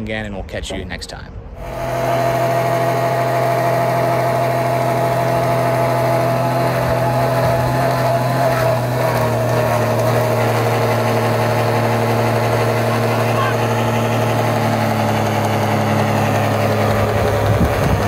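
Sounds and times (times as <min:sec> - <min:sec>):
small truck engine idling: 0:01.6 - 0:18.0.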